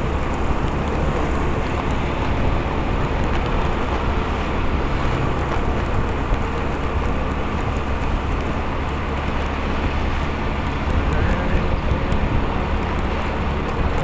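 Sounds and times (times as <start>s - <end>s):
motorcycle engine rumble: 0.0s - 14.0s.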